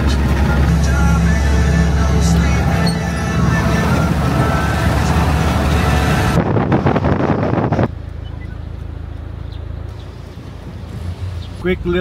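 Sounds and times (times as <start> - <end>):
low rumble: 0.0 - 9.9
car engine and road noise: 0.0 - 12.0.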